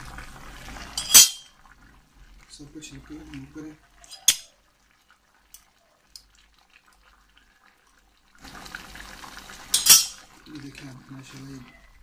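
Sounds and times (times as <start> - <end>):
faint ticks and drips: 0.0 - 12.0.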